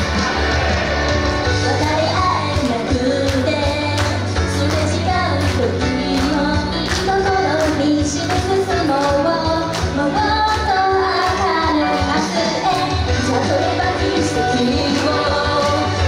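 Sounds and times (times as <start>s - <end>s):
bass: 0.0s - 16.0s
women singing a pop song: 1.5s - 16.0s.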